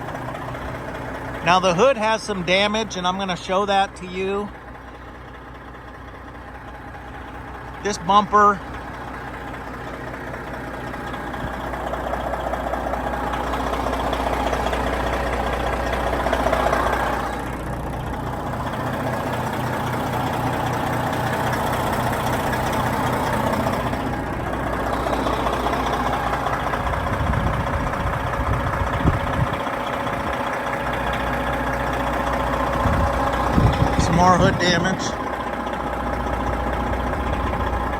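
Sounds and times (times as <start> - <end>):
dump truck diesel engine idling: 0.0 - 37.9
engine knock: 0.0 - 37.9.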